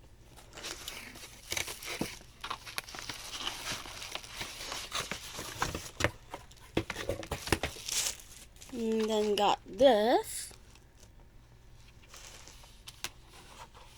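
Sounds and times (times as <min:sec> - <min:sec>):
packaging crinkling and rustling: 0:00.3 - 0:09.4, 0:11.8 - 0:13.9.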